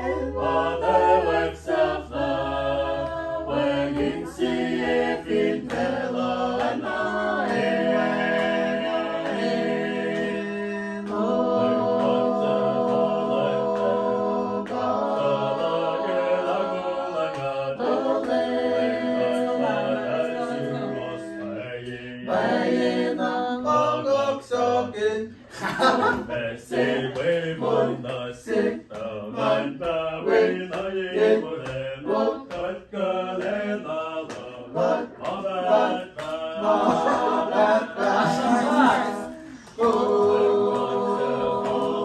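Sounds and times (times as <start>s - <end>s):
voices singing in harmony: 0.0s - 42.0s.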